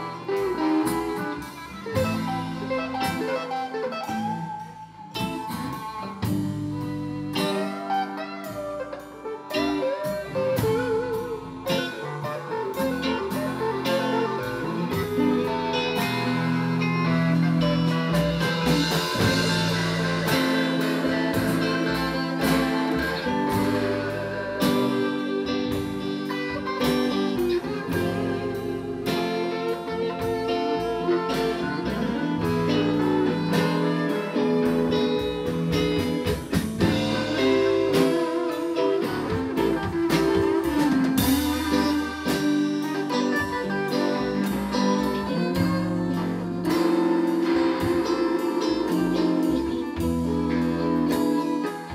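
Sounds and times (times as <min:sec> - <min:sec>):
plucked guitar: 0:00.0 - 0:51.9
violin: 0:00.0 - 0:51.9
low bass notes: 0:04.1 - 0:51.9.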